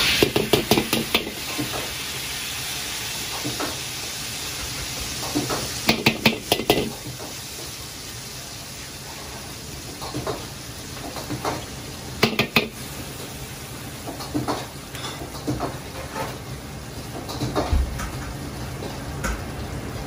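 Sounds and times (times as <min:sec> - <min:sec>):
hot oil sizzling in wok: 0:00.0 - 0:20.0.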